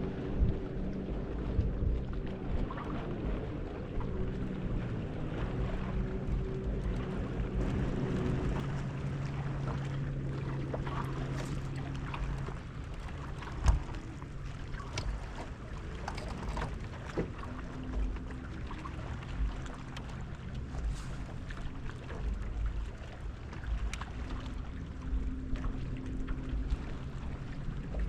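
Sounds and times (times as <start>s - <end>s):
boat motor humming: 0.0s - 28.0s
low rumbles: 0.0s - 28.0s.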